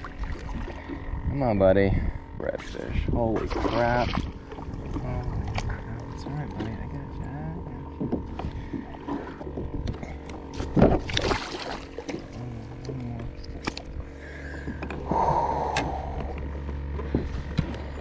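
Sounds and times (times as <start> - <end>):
fish splashing and thrashing: 0.0 - 1.2, 3.4 - 7.0, 7.7 - 18.0.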